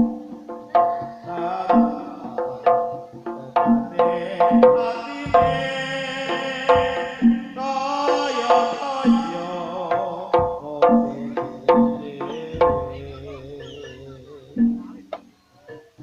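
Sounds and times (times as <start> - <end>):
drum strokes: 0.0 - 16.0
gamelan metal instruments: 0.0 - 16.0.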